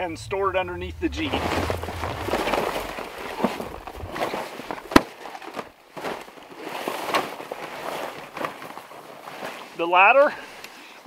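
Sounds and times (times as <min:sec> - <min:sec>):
heavy tent cover rustling: 0:00.9 - 0:10.6.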